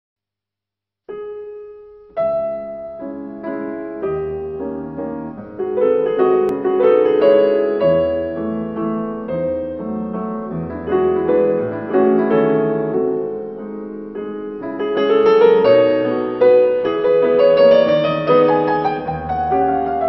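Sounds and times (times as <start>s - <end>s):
solo piano music: 1.1s - 20.0s.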